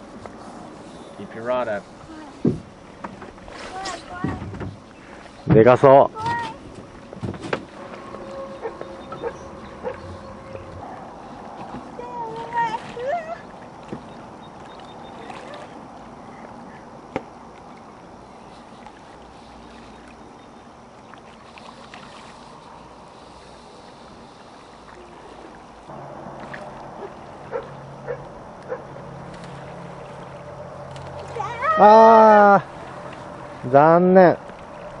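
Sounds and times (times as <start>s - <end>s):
low steady hum: 0.0s - 35.0s
river water lapping against boat: 0.0s - 35.0s.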